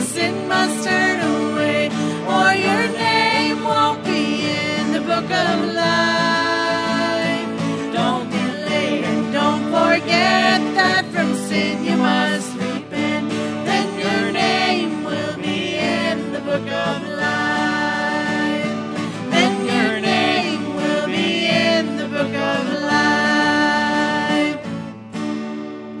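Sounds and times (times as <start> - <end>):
country gospel music: 0.0 - 26.0
strummed acoustic guitar: 0.0 - 26.0.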